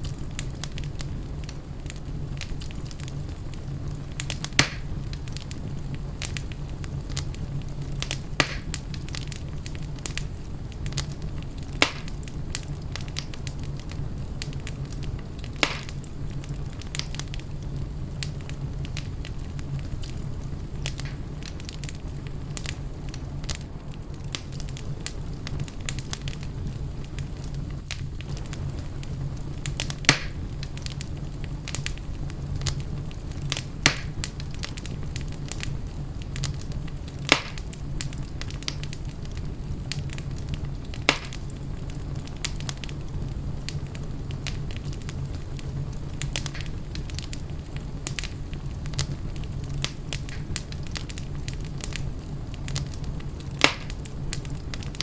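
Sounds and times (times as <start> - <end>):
fireplace fire crackling: 0.0 - 55.0
sharp fire pops: 0.0 - 55.0.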